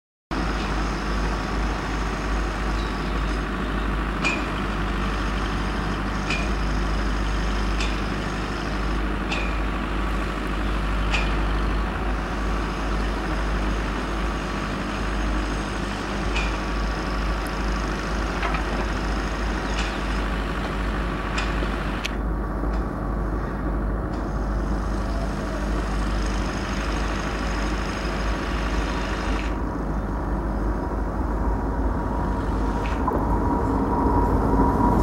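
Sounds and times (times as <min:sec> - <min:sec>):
electric locomotive rumbling: 0:00.3 - 0:35.0.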